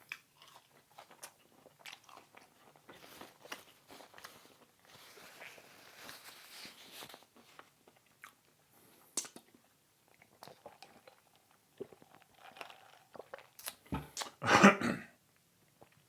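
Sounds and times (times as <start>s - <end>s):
crunching and wet chewing: 0.0s - 14.4s.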